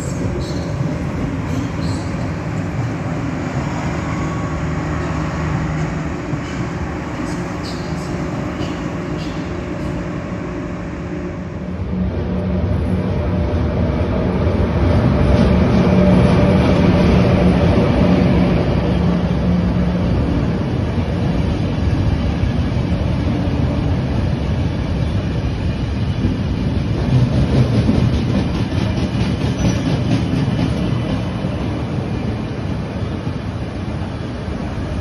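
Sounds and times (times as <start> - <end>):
electric locomotive hum: 0.0 - 35.0
train coaches rumbling by: 0.0 - 35.0.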